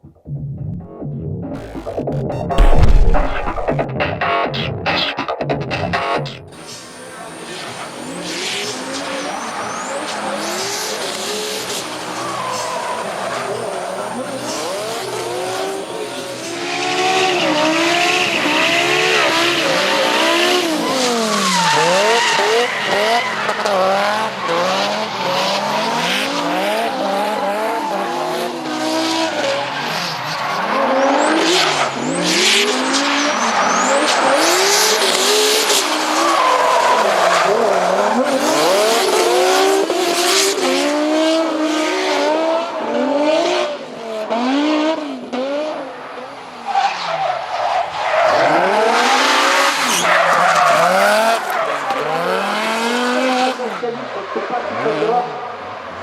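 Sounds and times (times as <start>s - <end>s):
car engine revving: 1.6s - 3.8s, 6.8s - 53.6s
tyres squealing and skidding: 6.6s - 41.6s, 45.4s - 56.0s.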